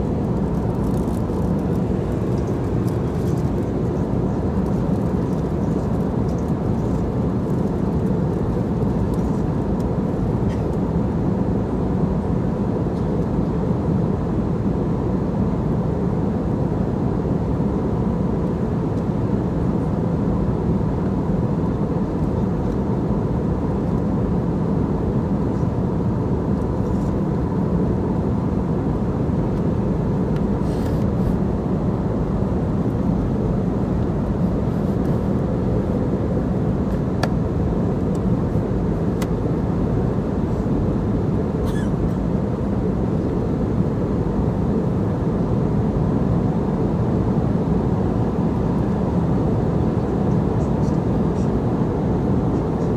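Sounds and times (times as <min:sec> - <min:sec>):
airliner cabin rumble: 0:00.0 - 0:13.6, 0:16.4 - 0:52.9.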